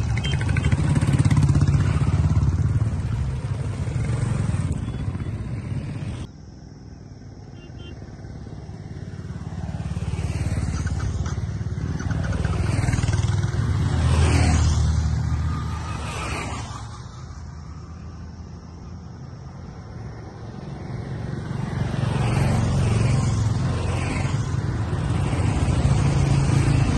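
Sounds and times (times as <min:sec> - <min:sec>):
motorcycles passing by: 0:00.0 - 0:26.9.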